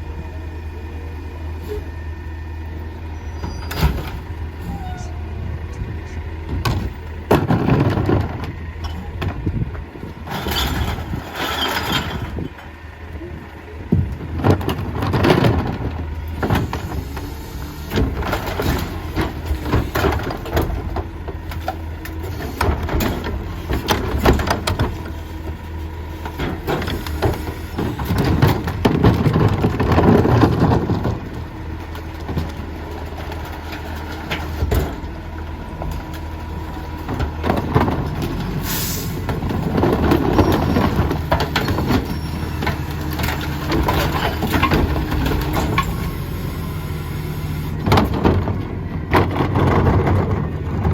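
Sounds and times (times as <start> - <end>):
garbage truck running: 0.0 - 50.9.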